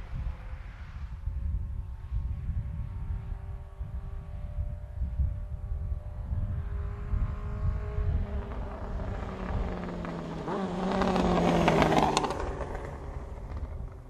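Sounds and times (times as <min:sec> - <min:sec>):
motorcycle passing by: 0:00.0 - 0:14.0.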